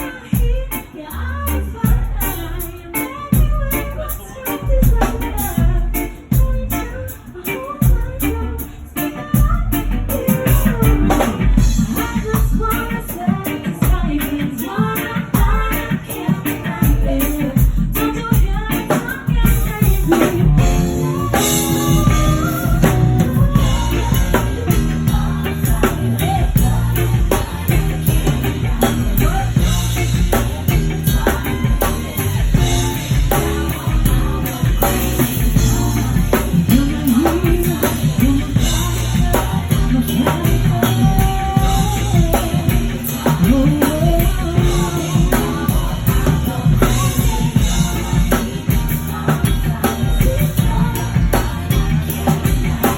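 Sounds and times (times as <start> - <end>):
person singing: 0.0 - 52.9
pop-rock music with drums and bass: 0.0 - 52.9.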